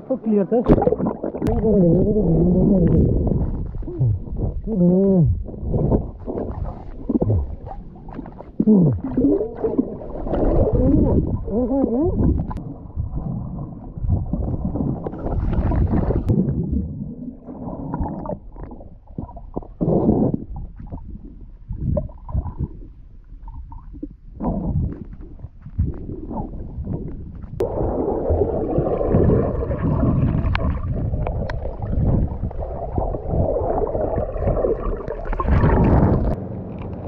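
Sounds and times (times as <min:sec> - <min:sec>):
muffled underwater water gurgling: 0:00.0 - 0:36.4.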